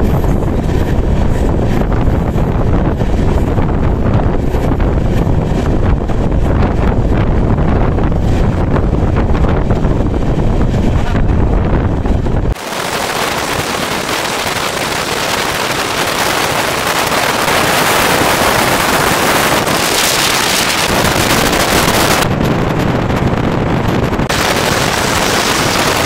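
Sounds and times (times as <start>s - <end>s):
moving train rushing noise: 0.0s - 26.0s
wind buffeting microphone: 0.0s - 26.0s.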